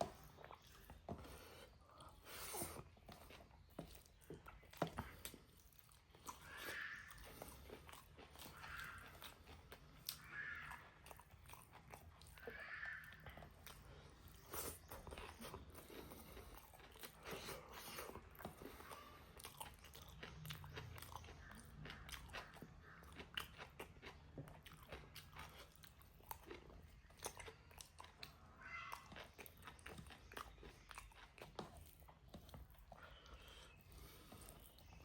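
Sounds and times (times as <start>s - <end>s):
person chewing and crunching: 0.0s - 35.0s.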